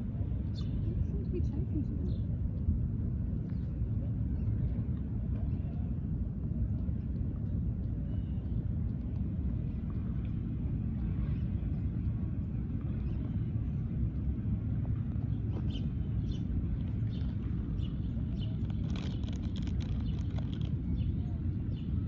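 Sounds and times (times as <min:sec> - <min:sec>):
distant city traffic rumble: 0:00.0 - 0:22.0.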